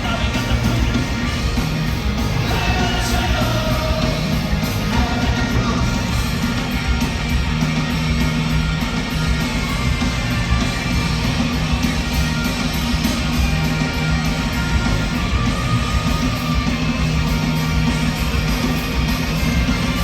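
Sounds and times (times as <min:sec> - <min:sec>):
loud live rock band: 0:00.0 - 0:20.0.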